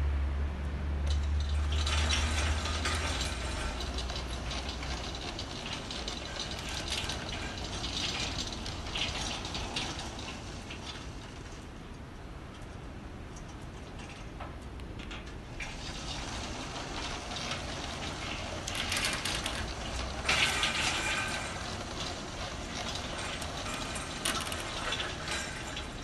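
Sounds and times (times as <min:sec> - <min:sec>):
sliding gate motor rattling: 0:01.0 - 0:26.0.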